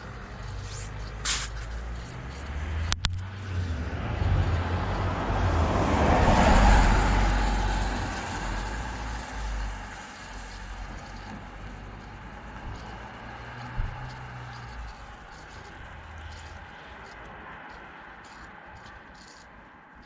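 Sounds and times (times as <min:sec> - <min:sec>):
vehicle passing by: 0:00.0 - 0:19.4.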